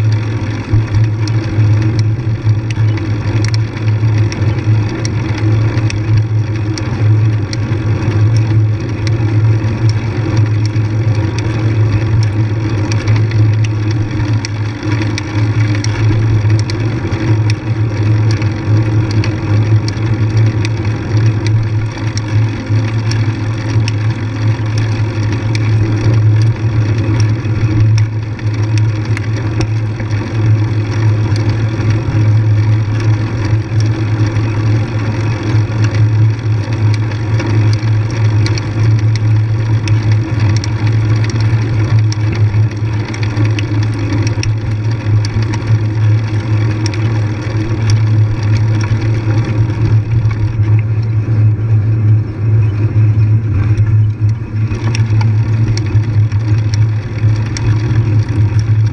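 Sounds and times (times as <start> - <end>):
faint clicks and rattles: 0.0 - 58.9
motorcycle engine running: 0.0 - 58.9.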